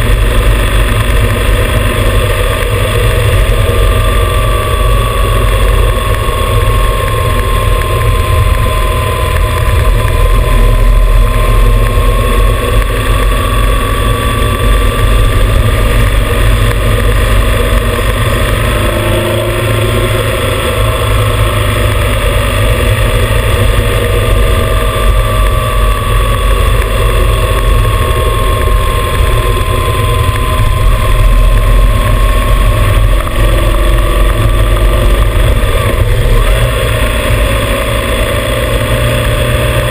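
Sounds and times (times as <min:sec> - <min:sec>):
motorcycle engine: 0:00.0 - 0:39.9
thin whine: 0:00.0 - 0:39.9
wind rumble on microphone: 0:00.0 - 0:39.9.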